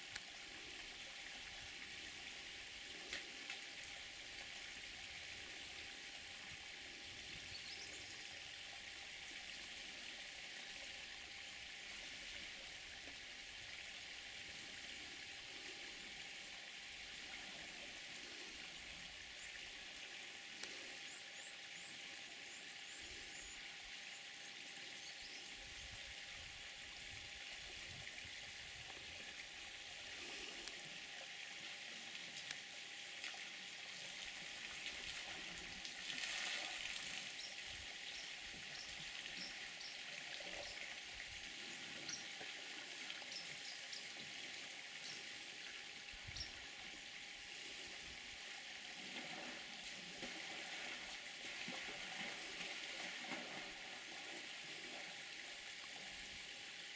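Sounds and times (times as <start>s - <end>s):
outdoor bush ambience hiss: 0.0s - 56.9s.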